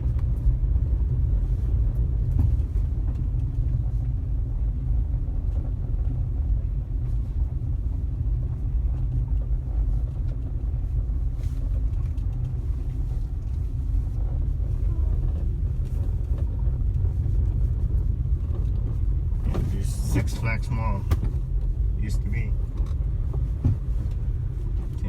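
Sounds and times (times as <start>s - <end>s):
car engine rumble: 0.0s - 25.0s
road noise: 0.0s - 25.0s.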